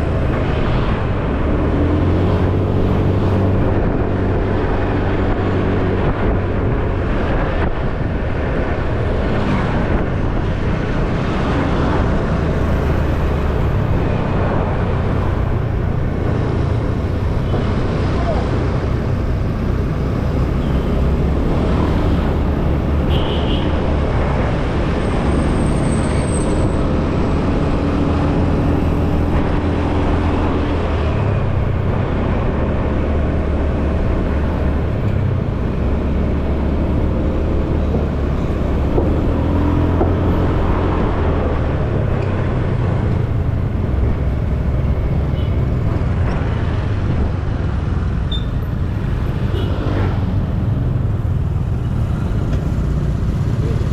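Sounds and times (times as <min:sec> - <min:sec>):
road traffic: 0:00.0 - 0:53.9.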